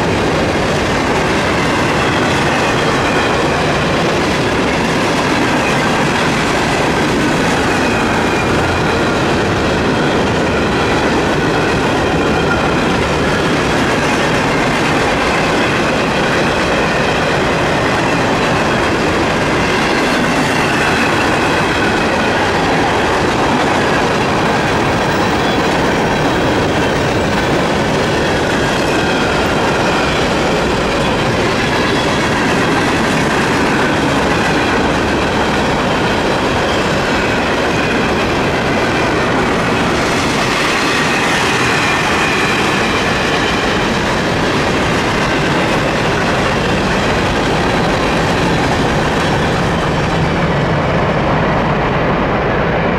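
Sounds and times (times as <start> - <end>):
steel wheels rumbling on rails: 0.0 - 52.9.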